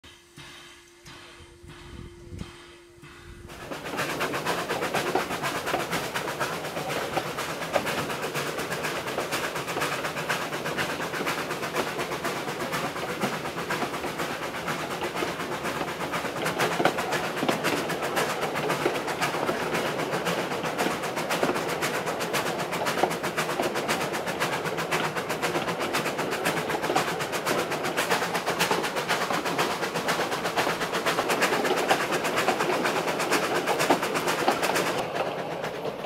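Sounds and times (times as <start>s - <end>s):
train rattling and clattering: 0.0s - 36.0s.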